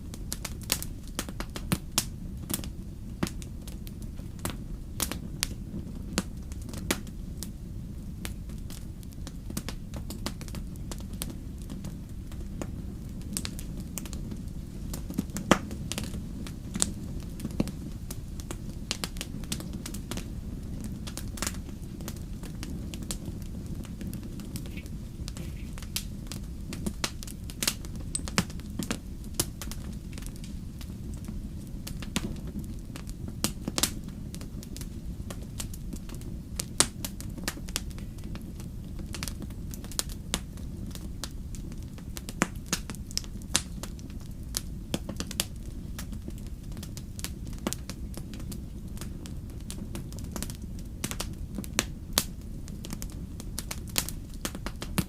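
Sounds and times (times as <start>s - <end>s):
fire crackling and popping: 0.0s - 55.0s
steady low rumble: 0.0s - 55.0s.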